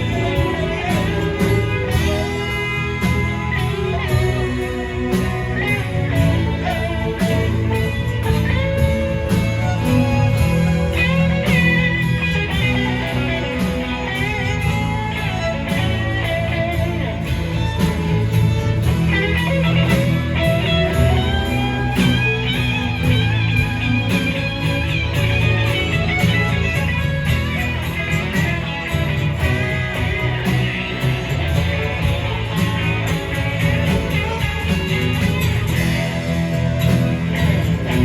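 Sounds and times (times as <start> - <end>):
bass: 0.0 - 38.0
lead electric guitar melody: 0.0 - 38.0
steady drum beat: 0.0 - 38.0.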